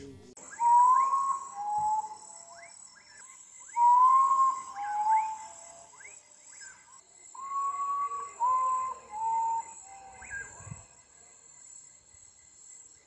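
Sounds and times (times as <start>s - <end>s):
bird singing whistled notes: 0.4s - 11.1s
insects trilling: 0.4s - 13.0s.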